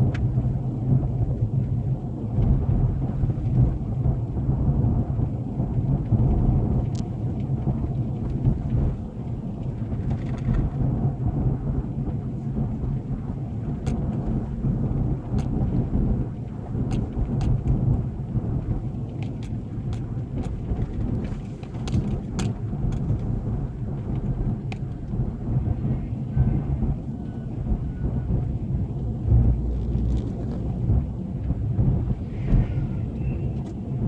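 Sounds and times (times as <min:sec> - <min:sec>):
car tyres and engine rumbling: 0:00.0 - 0:34.0.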